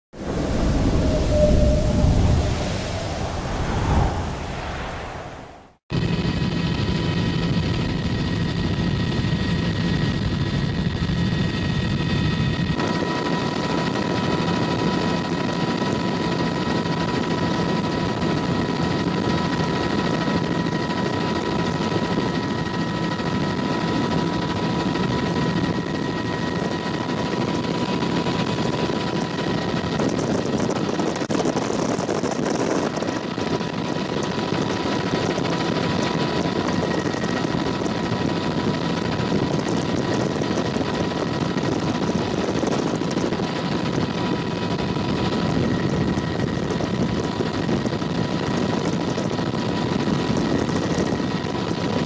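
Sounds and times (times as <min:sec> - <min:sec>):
helicopter engine whine: 0:00.1 - 0:52.0.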